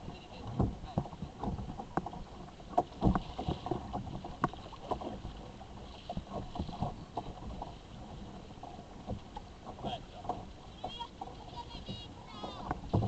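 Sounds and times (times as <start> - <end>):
water splashing against kayak hull: 0.0 - 13.0
water washing: 0.0 - 13.0.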